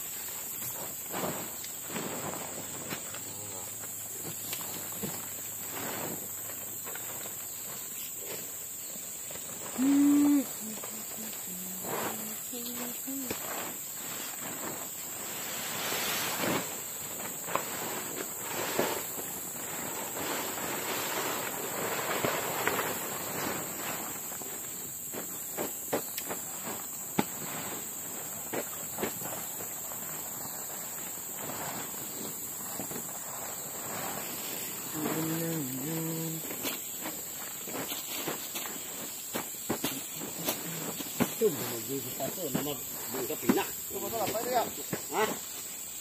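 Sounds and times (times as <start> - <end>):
rustling footsteps: 0.0 - 45.9
insects droning: 0.0 - 46.0.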